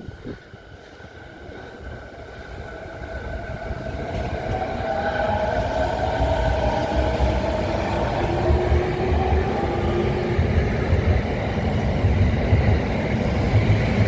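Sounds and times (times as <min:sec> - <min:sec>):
train running gear rumble: 0:00.0 - 0:14.0.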